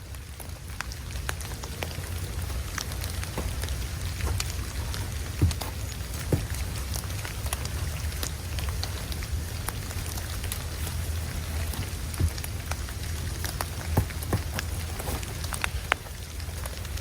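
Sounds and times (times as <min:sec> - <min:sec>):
icy snow pattering: 0:00.0 - 0:17.0
wind hissing and rumbling: 0:00.0 - 0:17.0.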